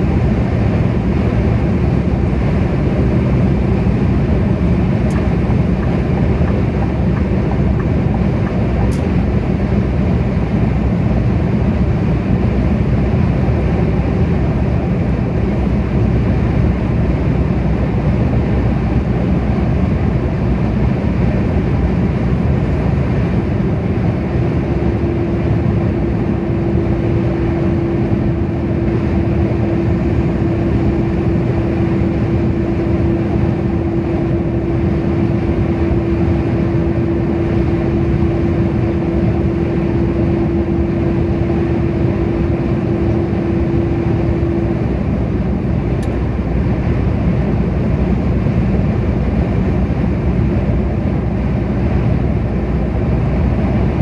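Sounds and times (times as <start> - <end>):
steady humming tone: 0.0 - 54.0
vehicle road and engine noise: 0.0 - 54.0.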